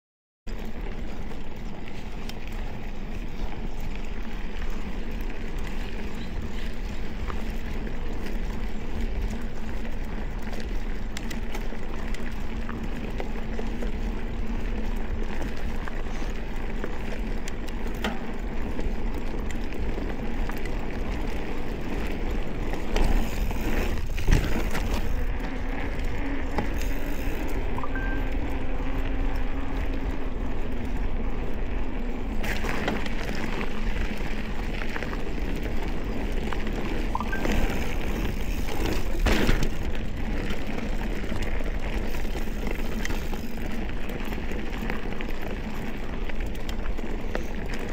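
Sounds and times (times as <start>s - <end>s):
bike clicks and rattles: 0.5s - 47.9s
bike tyres rolling on dirt: 0.5s - 47.9s
faint steady hum: 0.5s - 47.9s
wind rumbling on microphone: 0.5s - 47.9s.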